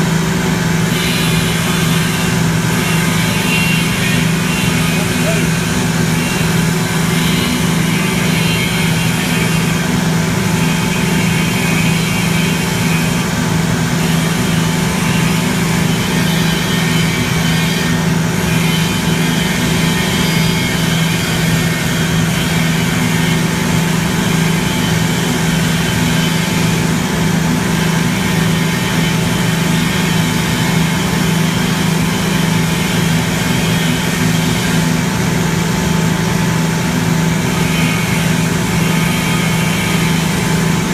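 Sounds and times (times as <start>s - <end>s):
constant machine tones: 0.0s - 40.9s
conveyor machinery droning: 0.0s - 40.9s.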